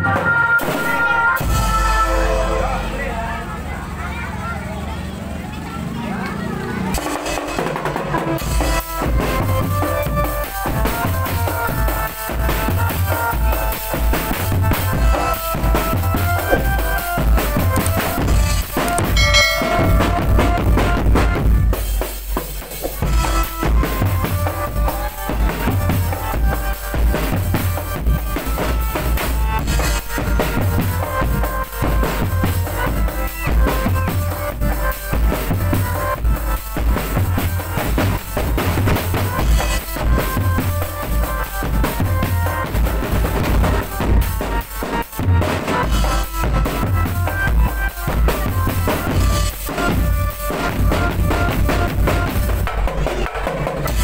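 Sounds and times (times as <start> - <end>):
marching drum band: 6.9 - 54.0.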